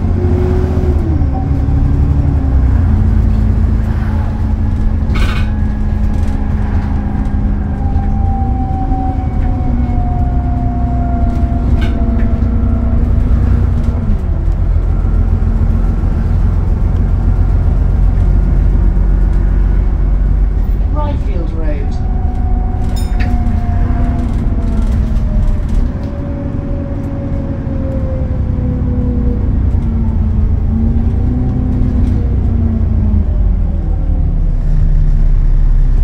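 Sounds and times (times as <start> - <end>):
bus engine drone with whine: 0.0 - 36.0.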